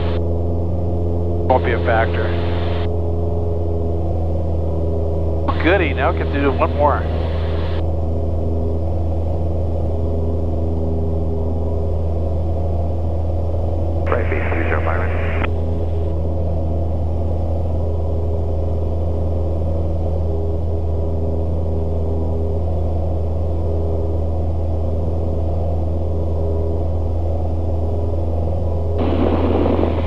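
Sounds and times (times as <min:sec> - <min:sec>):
airplane engine and propeller droning: 0:00.0 - 0:30.0.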